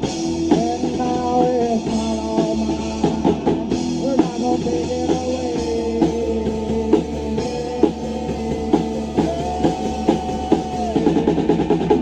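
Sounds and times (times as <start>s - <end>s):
drum kit beat: 0.0s - 12.0s
electric guitar: 0.0s - 12.0s.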